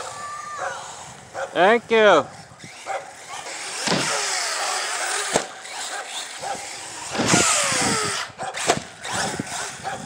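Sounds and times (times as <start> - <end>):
rc car motor whine: 0.0 - 10.0.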